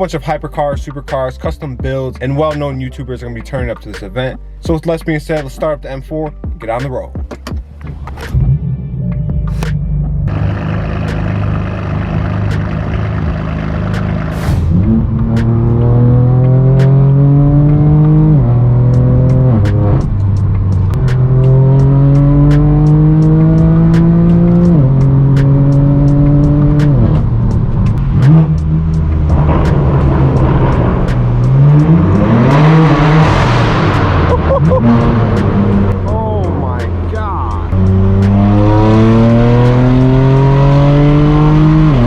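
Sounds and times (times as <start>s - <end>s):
car accelerating through gears: 7.9s - 42.0s.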